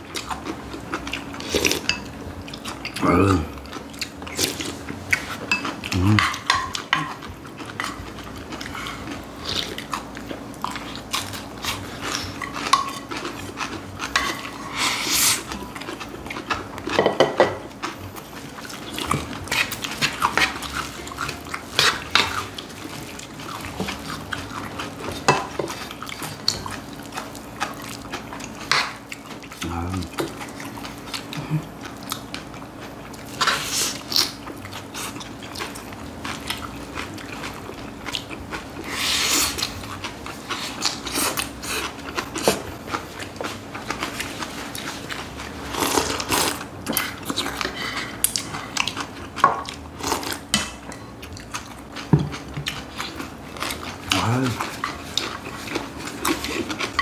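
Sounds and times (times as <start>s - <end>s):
eating noises: 0.0s - 57.0s.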